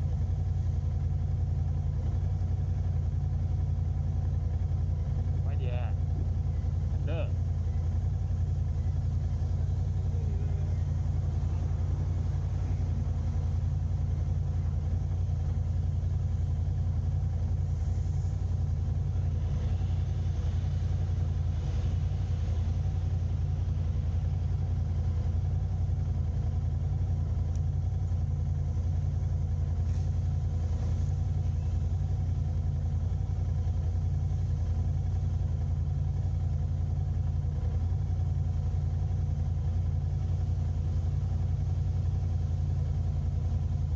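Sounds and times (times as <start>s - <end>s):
car engine rumble: 0.0s - 43.9s
road noise: 0.0s - 43.9s.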